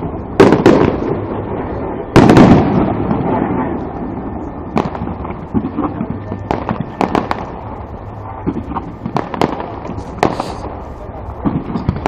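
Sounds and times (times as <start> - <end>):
fireworks popping and crackling: 0.0 - 10.8, 11.4 - 12.0.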